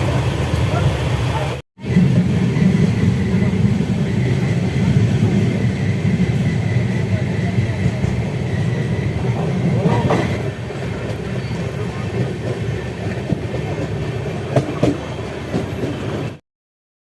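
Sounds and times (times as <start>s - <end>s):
train rumbling at speed: 0.0s - 16.4s.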